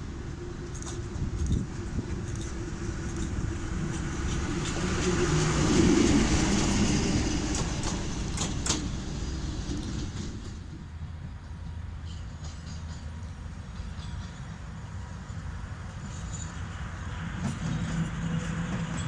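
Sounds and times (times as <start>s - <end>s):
locomotive diesel engine passing: 0.0s - 19.0s.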